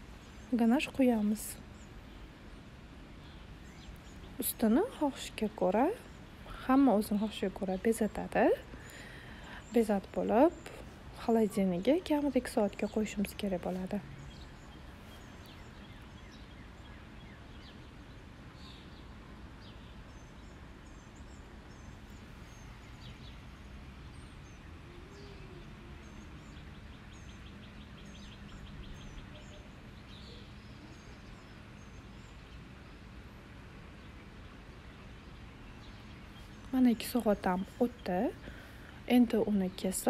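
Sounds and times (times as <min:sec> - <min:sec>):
background hiss and hum: 0:00.0 - 0:40.0
small birds chirping: 0:00.0 - 0:40.0.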